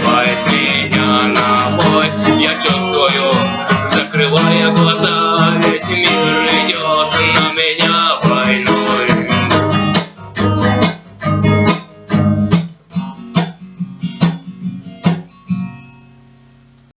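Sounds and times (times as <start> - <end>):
acoustic guitar strumming chords: 0.0 - 16.9.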